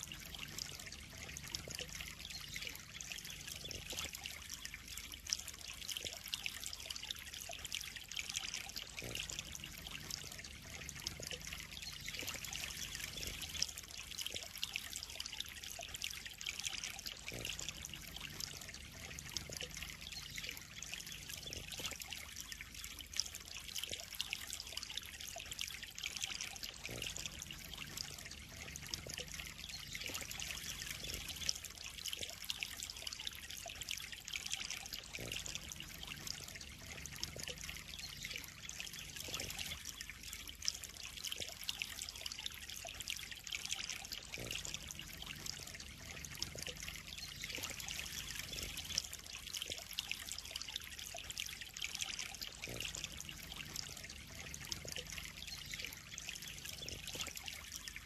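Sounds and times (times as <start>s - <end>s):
water trickling into pond: 0.0s - 58.0s.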